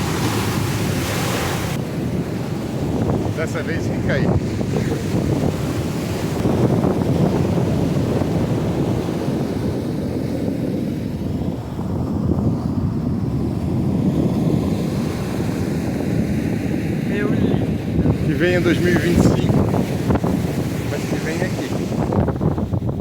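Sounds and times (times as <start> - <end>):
ocean surf: 0.0 - 23.0
wind buffeting microphone: 0.0 - 23.0.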